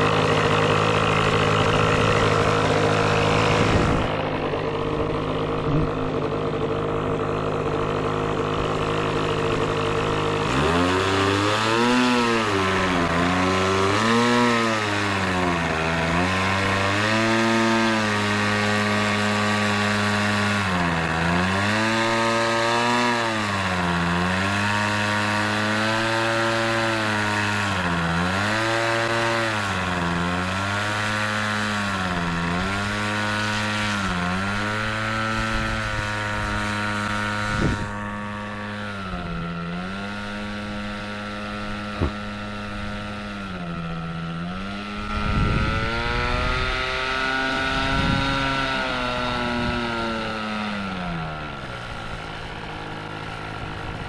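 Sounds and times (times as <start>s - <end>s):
model plane engine running: 0.0s - 54.0s.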